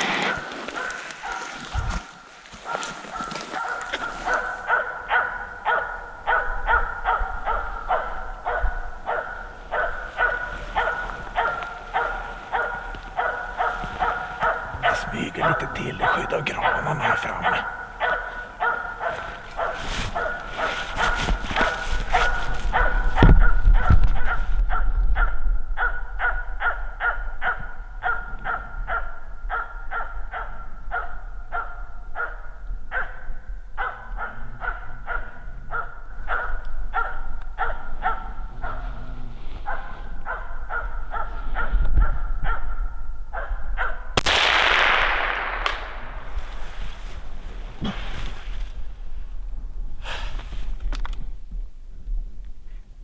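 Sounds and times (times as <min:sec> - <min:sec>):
dog barking: 0:00.2 - 0:44.2.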